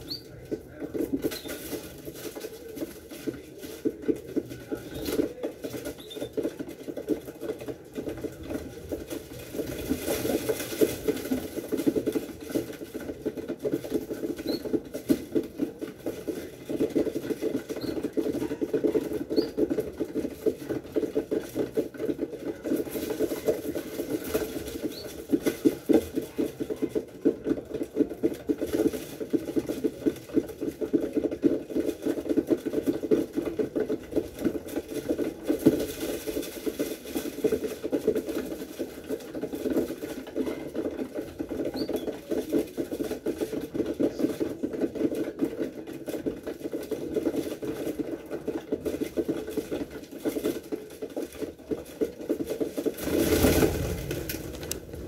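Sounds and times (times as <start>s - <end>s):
birds pecking on cardboard: 0.0s - 55.0s.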